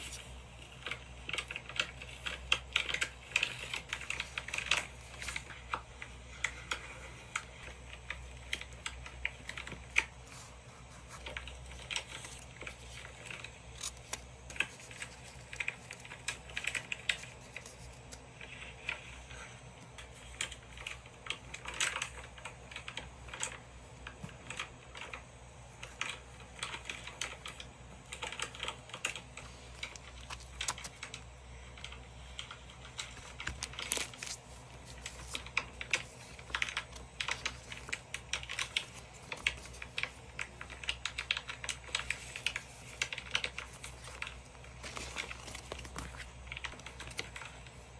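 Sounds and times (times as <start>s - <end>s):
paper stickers crinkling: 0.0s - 47.9s.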